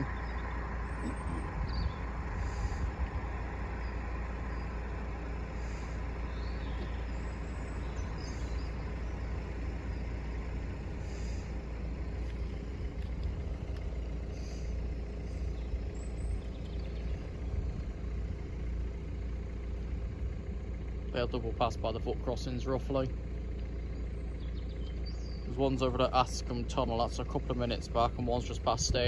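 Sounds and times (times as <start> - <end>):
road traffic rumble: 0.0 - 29.0
wind: 0.0 - 29.0.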